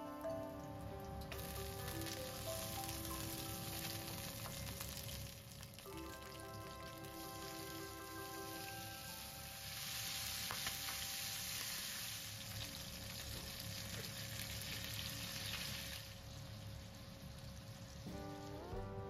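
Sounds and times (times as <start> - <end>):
chicken sizzling in oil: 0.0 - 18.8.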